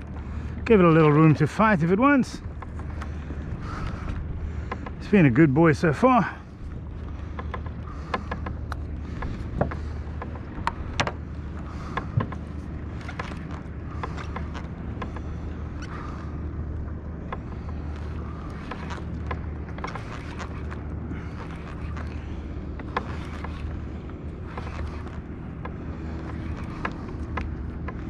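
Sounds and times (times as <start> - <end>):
boat motor humming: 0.0 - 28.0.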